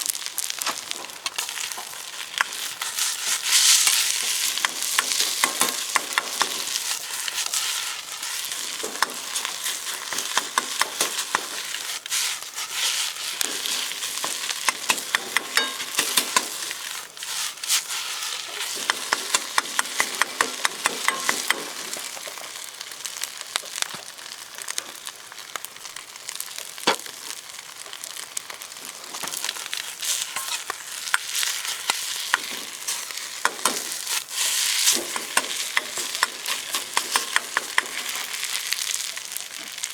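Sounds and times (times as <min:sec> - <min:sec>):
rice sizzling in a wok: 0:00.0 - 0:39.9
utensil scraping a wok: 0:00.2 - 0:23.4, 0:28.0 - 0:39.8.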